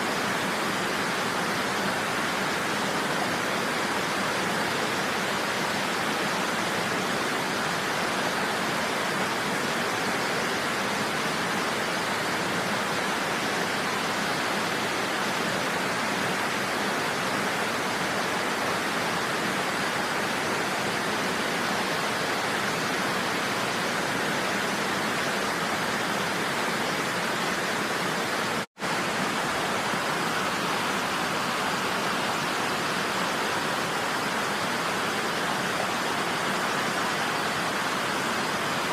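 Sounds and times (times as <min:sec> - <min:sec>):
waterfall pouring and crashing: 0:00.0 - 0:38.9.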